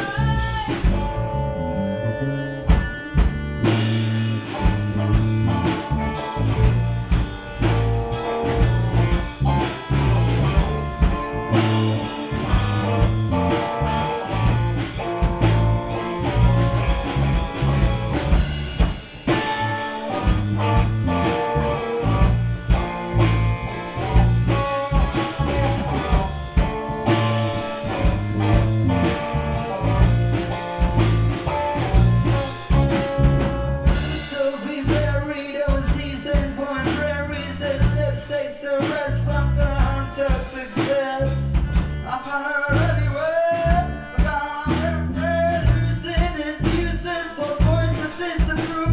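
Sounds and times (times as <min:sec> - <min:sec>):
accordion: 0:00.0 - 0:48.9
rock band playing instrumental: 0:00.0 - 0:48.9.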